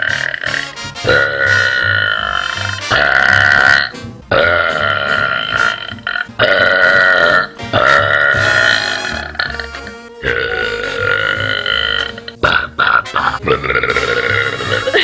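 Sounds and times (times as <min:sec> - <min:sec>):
girl burping loudly: 0:00.0 - 0:15.0.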